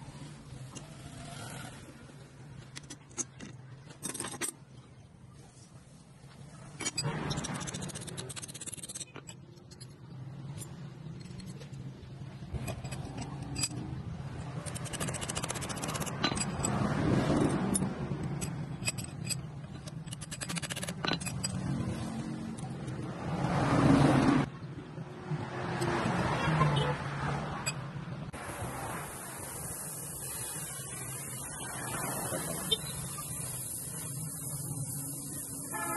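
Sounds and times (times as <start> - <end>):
steel parts clinking and scraping: 0.2 - 23.2, 27.6 - 28.0, 29.4 - 35.9.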